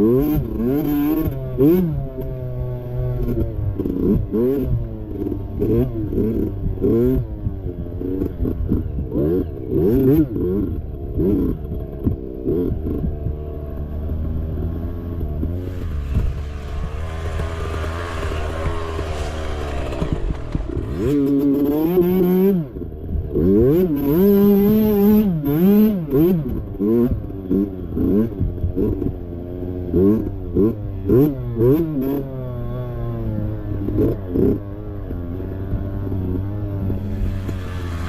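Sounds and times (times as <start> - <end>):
mini bike engine revving: 0.0 - 38.0.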